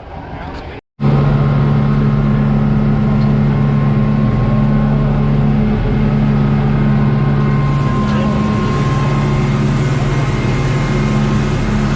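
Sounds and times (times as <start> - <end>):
speedboat engines running: 0.6 - 11.9.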